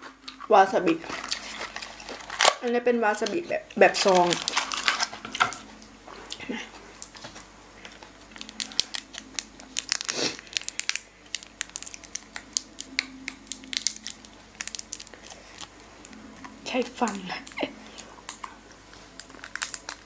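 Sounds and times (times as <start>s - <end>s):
plastic sachet crinkling and tearing: 0.8s - 5.6s, 7.8s - 20.0s.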